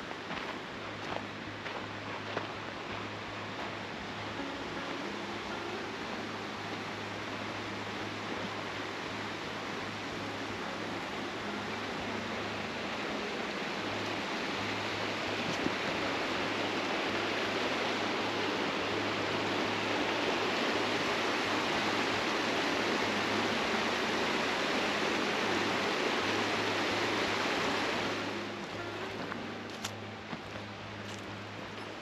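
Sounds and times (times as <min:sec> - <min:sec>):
creek water running: 0:00.0 - 0:32.0.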